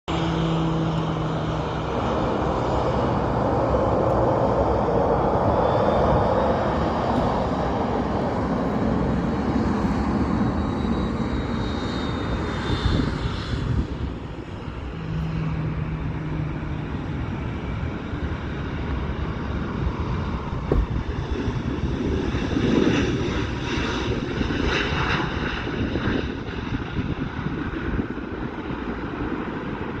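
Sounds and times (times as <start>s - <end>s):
low hum: 0.1s - 26.4s
jet engines running: 0.1s - 30.0s.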